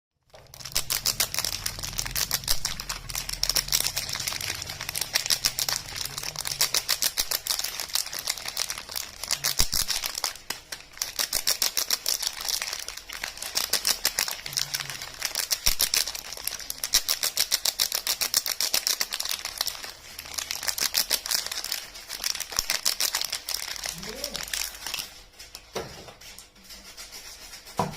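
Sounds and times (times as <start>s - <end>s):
wrapper crinkling: 0.2s - 27.6s.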